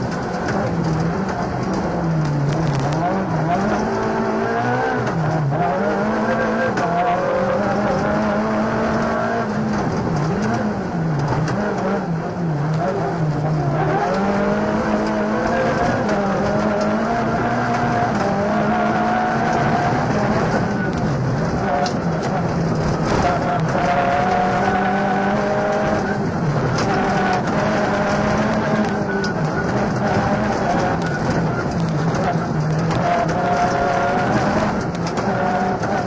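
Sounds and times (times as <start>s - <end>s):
rally car engine: 0.0s - 36.0s.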